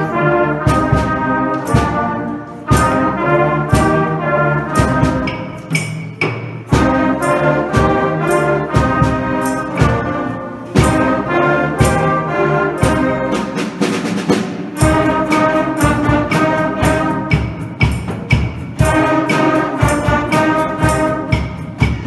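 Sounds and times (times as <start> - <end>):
brass chords: 0.0 - 6.0, 6.6 - 22.0
steady drum beat: 0.0 - 22.0.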